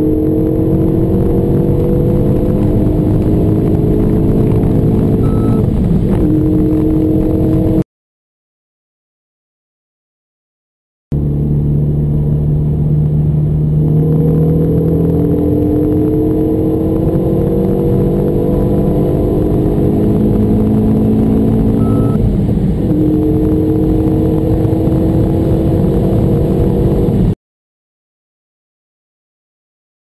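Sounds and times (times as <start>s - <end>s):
car engine accelerating hard: 0.0s - 7.8s, 11.1s - 27.4s.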